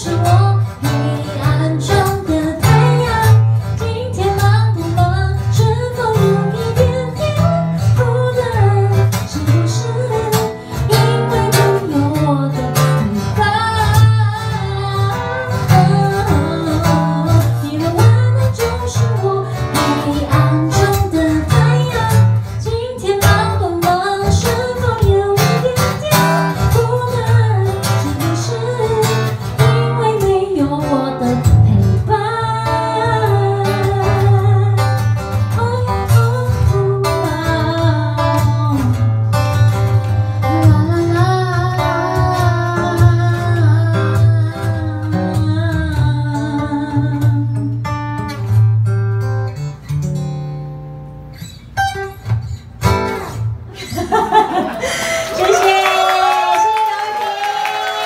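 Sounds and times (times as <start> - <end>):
woman singing: 0.0 - 39.6, 40.4 - 47.9
strummed acoustic guitar: 0.0 - 53.8.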